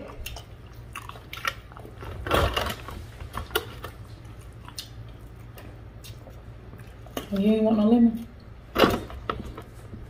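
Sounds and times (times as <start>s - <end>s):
chewing and mouth smacking: 0.0s - 8.6s.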